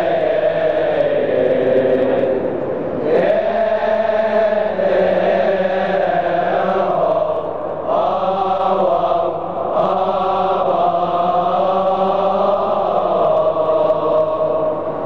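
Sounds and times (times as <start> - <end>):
male choir chanting a hymn: 0.0 - 15.0.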